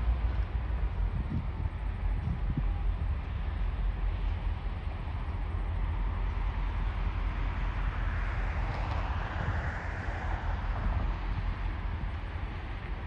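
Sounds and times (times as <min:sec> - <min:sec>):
locomotive low rumble: 0:00.0 - 0:13.0.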